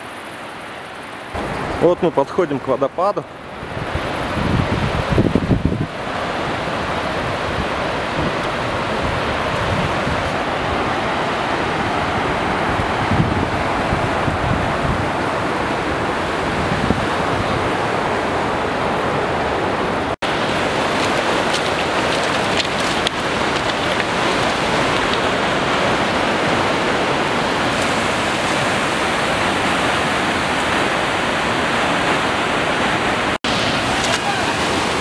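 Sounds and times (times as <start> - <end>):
river and waterfall rushing: 0.0 - 35.0.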